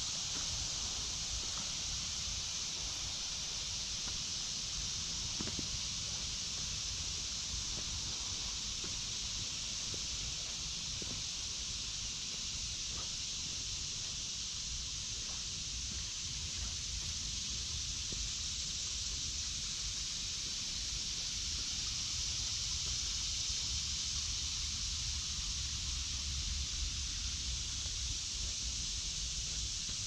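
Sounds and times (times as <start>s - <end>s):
cicada chorus drone: 0.0s - 30.0s.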